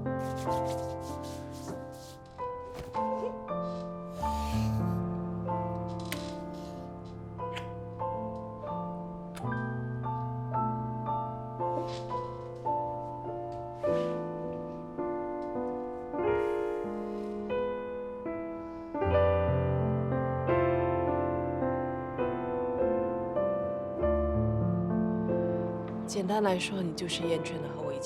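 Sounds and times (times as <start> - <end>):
slow solo piano music: 0.0 - 28.0.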